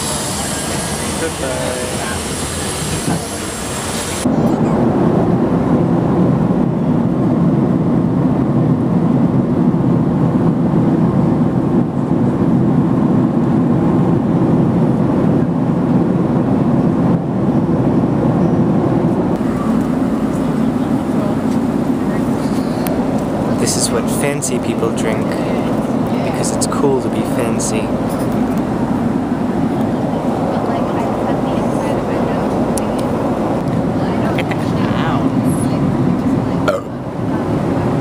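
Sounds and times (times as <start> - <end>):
jet cabin roar in flight: 0.0 - 38.0.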